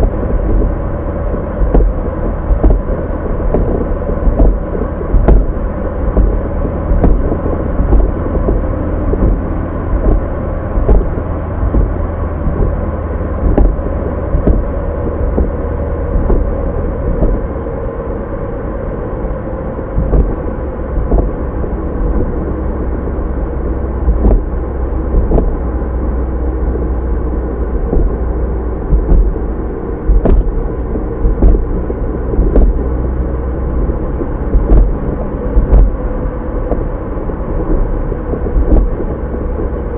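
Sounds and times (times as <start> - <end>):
faint steady hum: 0.0 - 39.9
road and engine rumble: 0.0 - 39.9.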